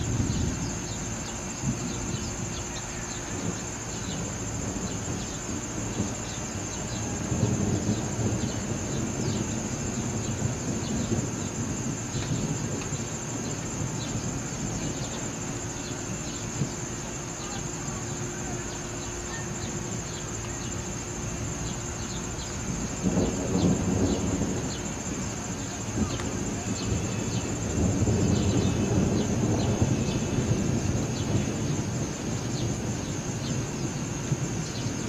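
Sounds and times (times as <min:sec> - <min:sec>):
distant thunder rumble: 0:00.0 - 0:35.0
insects chirring: 0:00.0 - 0:35.0.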